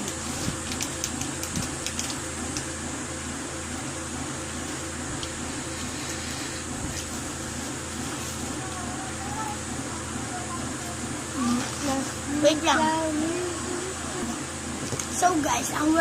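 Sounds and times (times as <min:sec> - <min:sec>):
room hum and hiss: 0:00.0 - 0:16.0.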